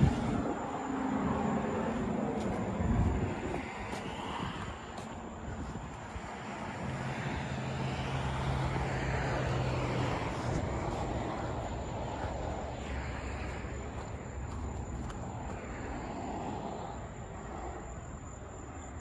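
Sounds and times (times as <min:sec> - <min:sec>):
heavy diesel engines running: 0:00.0 - 0:17.4.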